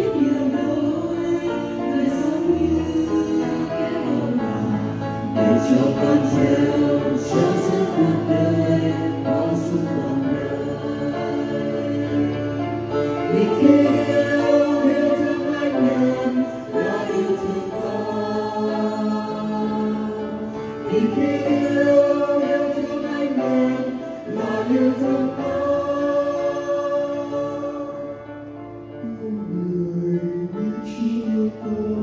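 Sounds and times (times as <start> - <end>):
mixed choir singing a hymn: 0.0 - 32.0.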